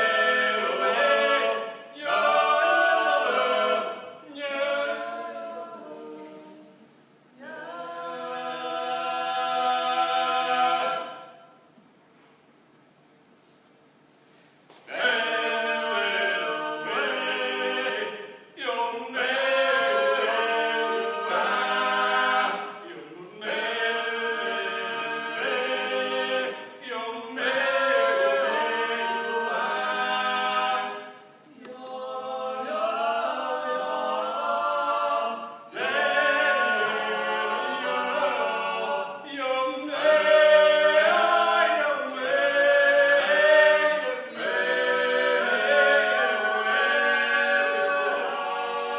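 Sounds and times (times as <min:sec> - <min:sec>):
voices singing in harmony: 0:00.0 - 0:11.7, 0:14.8 - 0:48.9.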